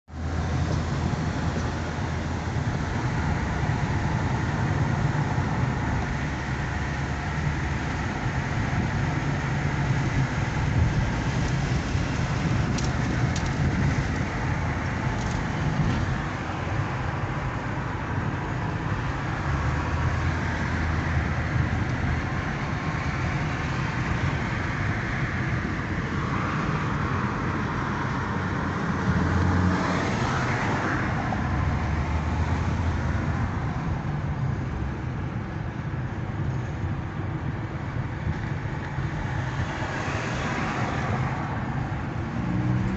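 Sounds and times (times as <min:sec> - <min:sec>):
road and engine noise inside car: 0:00.0 - 0:42.9.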